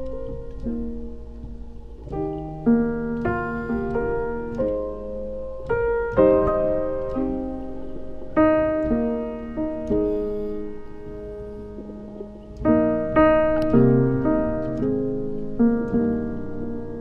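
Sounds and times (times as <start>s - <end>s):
slow calm solo piano: 0.0s - 17.0s.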